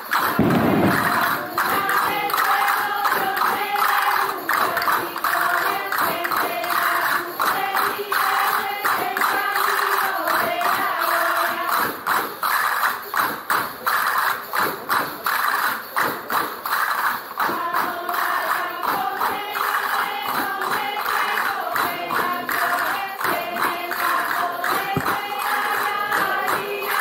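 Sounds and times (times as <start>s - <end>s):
voices singing a folk song: 0.0s - 12.7s, 17.4s - 27.0s
tambourines beating: 0.0s - 27.0s.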